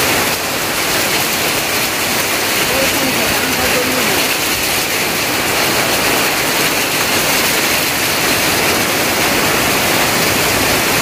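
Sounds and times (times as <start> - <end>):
heavy rain on tin roofs: 0.0 - 11.0.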